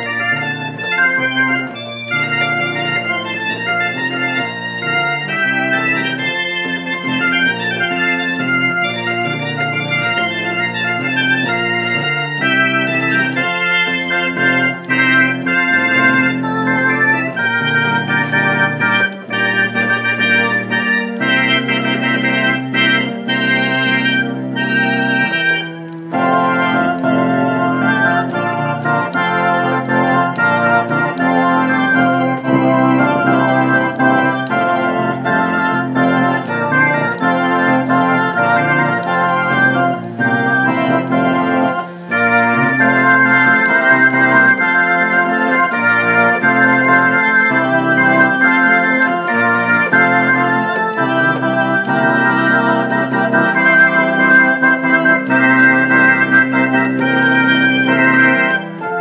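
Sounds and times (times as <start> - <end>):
theatre organ playing chords: 0.0 - 59.0.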